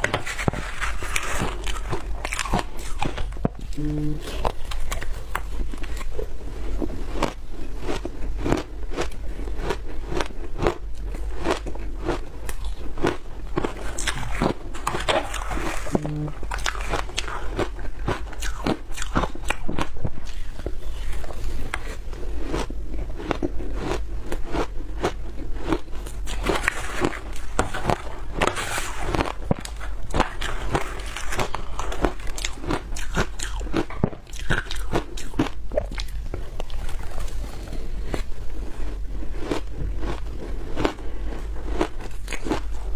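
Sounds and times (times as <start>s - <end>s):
chewing frozen food crunches: 0.0s - 42.9s.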